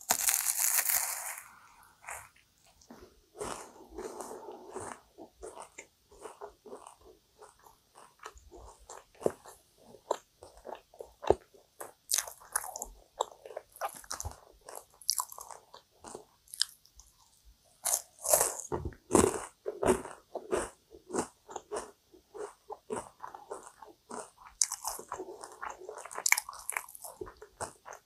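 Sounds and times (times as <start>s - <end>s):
chewing crackly pastry: 0.0s - 28.0s.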